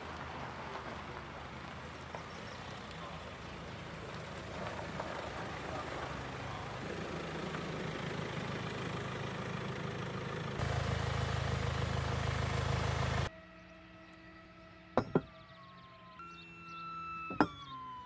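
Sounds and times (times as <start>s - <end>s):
engine low rumble: 0.0s - 18.0s.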